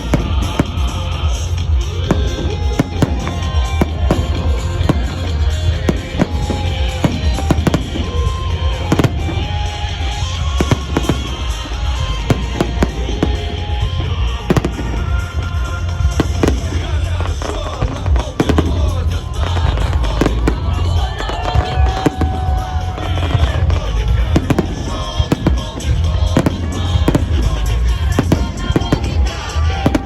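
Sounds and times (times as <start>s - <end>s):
fireworks bursting: 0.0s - 30.0s
music playing: 0.0s - 30.0s.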